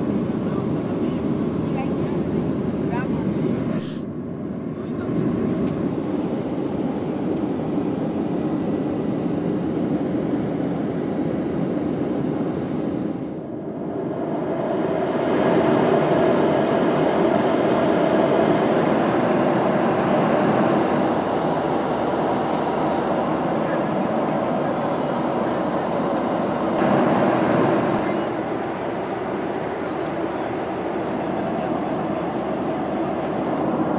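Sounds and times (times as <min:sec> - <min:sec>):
jet engine roar in cabin: 0:00.0 - 0:33.9.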